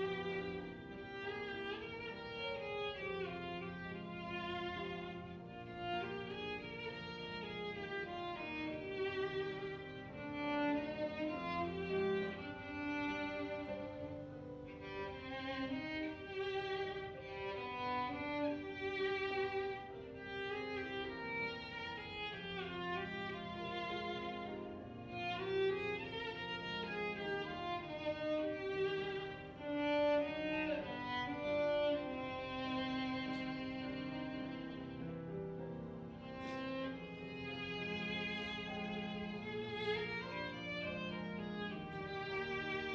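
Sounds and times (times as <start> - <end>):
low string accompaniment: 0.0 - 42.9
violin melody: 0.0 - 42.9.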